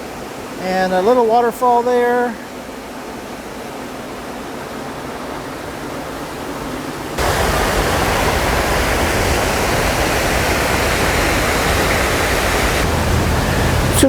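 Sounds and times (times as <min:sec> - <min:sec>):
water rushing over a waterfall: 0:00.0 - 0:14.0.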